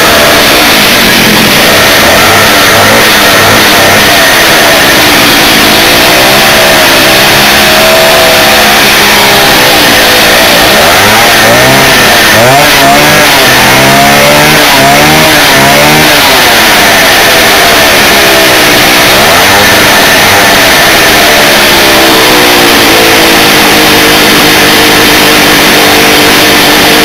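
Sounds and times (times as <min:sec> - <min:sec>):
chainsaw engine revving: 0:00.0 - 0:27.0.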